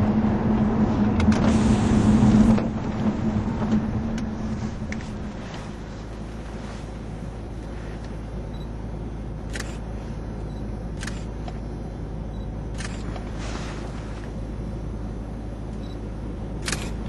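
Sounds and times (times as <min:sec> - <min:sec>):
car engine drone: 0:00.0 - 0:17.0
tyres on rough road: 0:00.0 - 0:17.0.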